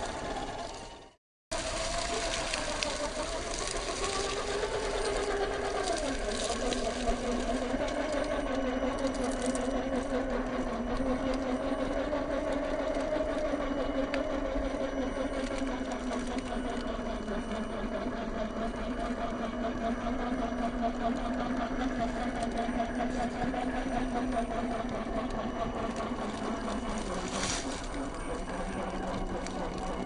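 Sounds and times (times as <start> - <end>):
toy truck electric motor whine: 0.0 - 30.0.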